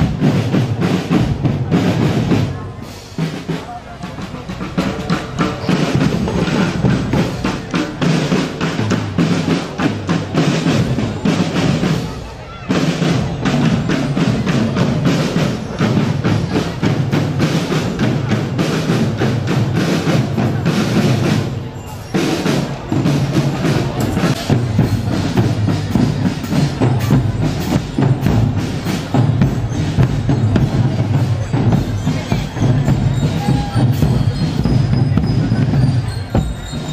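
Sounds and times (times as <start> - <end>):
pitched bass drum notes: 0.0 - 21.4, 22.2 - 36.9
cymbals struck: 0.0 - 36.9
snare drums rattling: 0.0 - 36.9.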